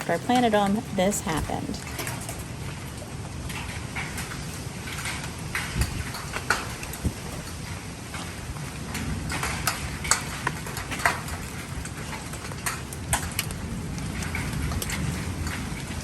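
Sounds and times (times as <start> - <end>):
heavy rain falling: 0.0 - 16.0
raindrops ticking close by: 0.0 - 16.0.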